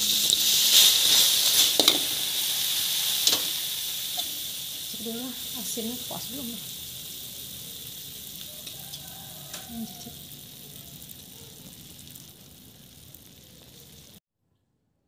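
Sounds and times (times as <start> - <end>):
tofu sizzling in a wok: 0.0 - 14.2.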